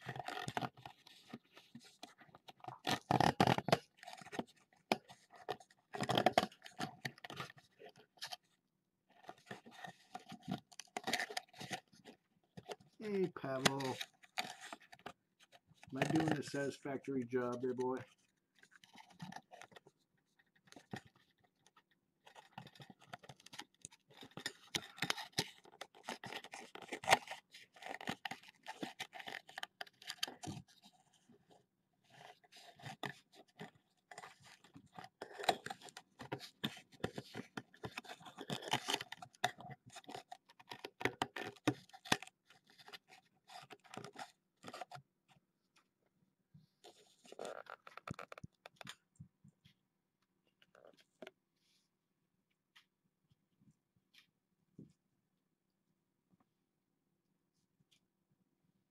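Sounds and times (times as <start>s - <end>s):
scratching and scraping: 0.0s - 45.0s, 46.7s - 49.1s.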